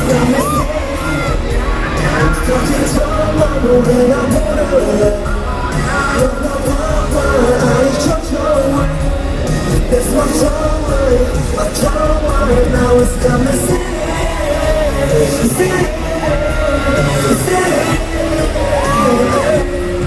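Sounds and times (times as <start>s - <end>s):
fans screaming: 0.0s - 20.0s
live concert music: 0.0s - 20.0s
person singing over beat: 0.0s - 20.0s.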